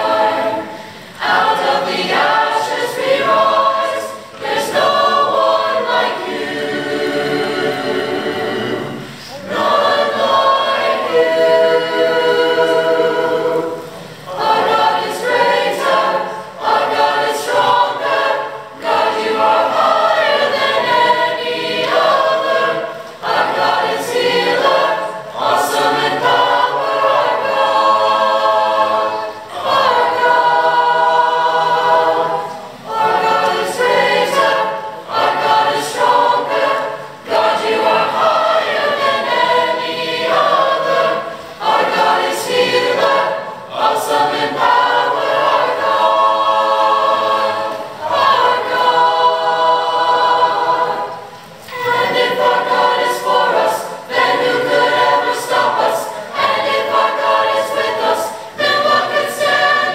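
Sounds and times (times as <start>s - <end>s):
youth choir singing a hymn: 0.0s - 59.9s.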